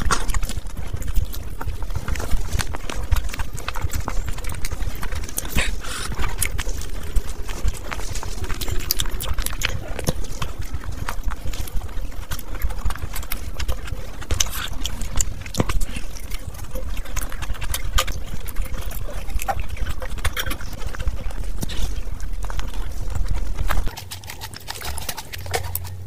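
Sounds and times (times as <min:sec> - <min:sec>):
people chewing and lip smacking: 0:00.0 - 0:26.0.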